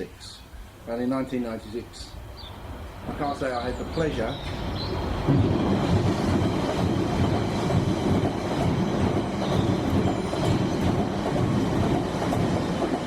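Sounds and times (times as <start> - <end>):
train rumbling past: 1.6 - 13.0.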